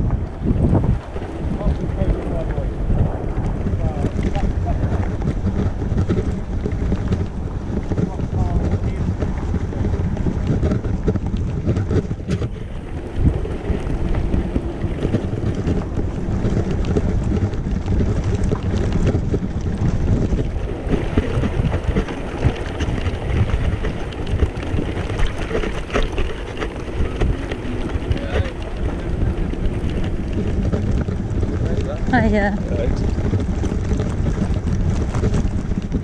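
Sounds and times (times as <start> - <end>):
wheelchair rumbling over grass: 0.0 - 36.0
wind on microphone: 0.0 - 36.0.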